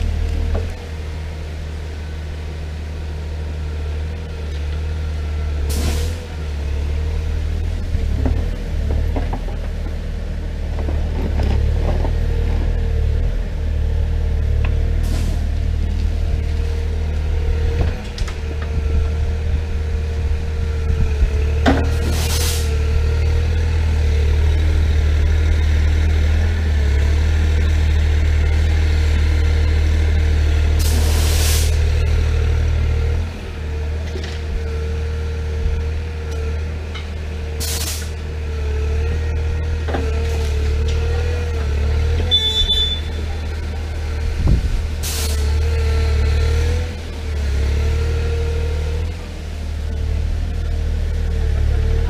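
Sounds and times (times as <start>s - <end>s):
excavator diesel drone: 0.0s - 52.0s.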